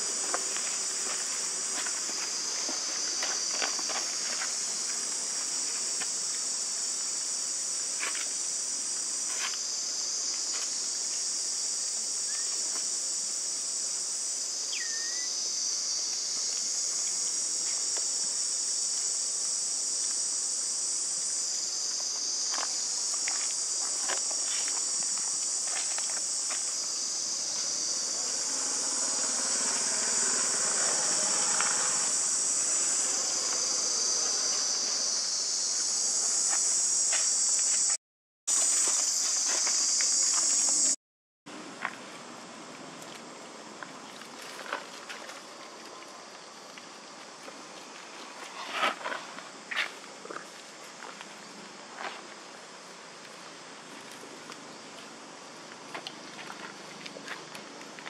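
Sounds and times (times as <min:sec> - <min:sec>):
rustle: 0:00.0 - 0:40.9, 0:41.5 - 0:58.0
high-pitched insect chorus: 0:00.0 - 0:41.0, 0:41.8 - 0:58.0.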